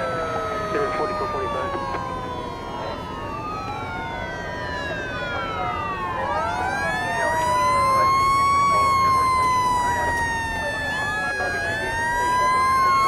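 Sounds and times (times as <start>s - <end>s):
fire engine sirens wailing: 0.0s - 13.0s.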